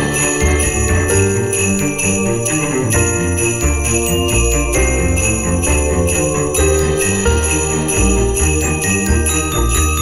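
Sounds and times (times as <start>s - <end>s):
jingle bells shaken: 0.0s - 10.0s.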